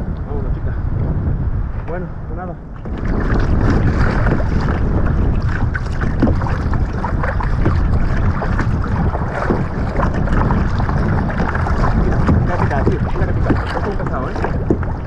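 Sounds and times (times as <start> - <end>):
wind buffeting microphone: 0.0 - 15.0
water sloshing against kayak hull: 2.7 - 15.0.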